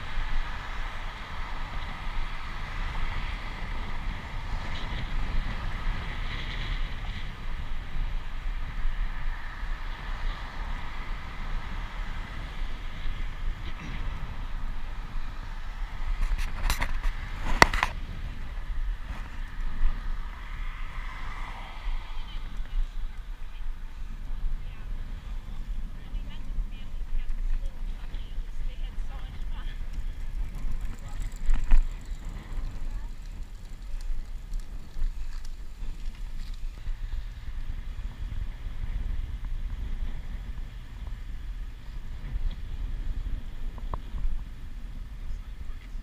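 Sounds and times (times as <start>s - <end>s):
bicycle rolling rumble: 0.0s - 46.0s
wind on microphone: 0.0s - 46.0s.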